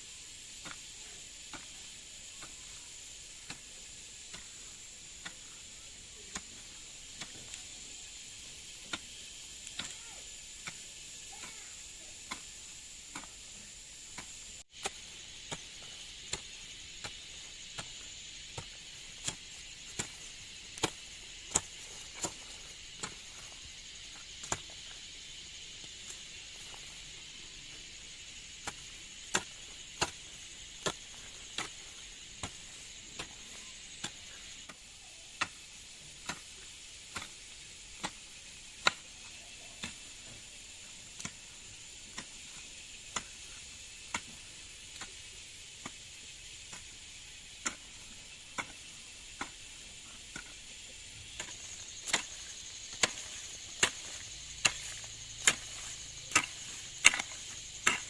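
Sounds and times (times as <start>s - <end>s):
hand tool chopping ground: 0.1s - 58.0s.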